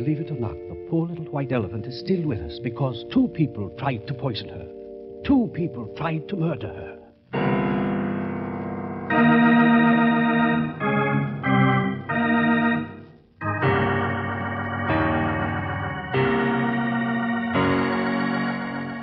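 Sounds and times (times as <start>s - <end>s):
organ chords: 0.0s - 19.0s.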